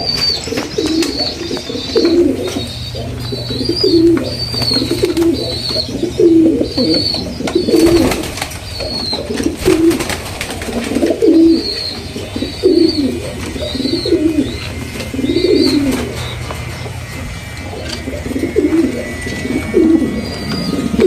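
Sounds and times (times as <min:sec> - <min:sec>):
high bird chirps: 0:00.0 - 0:21.0
pigeons cooing: 0:00.0 - 0:21.0.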